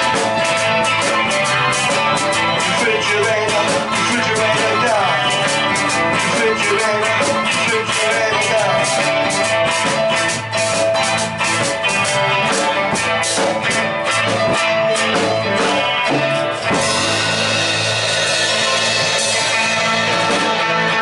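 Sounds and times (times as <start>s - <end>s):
drum kit: 0.0s - 21.0s
electric guitar: 0.0s - 21.0s.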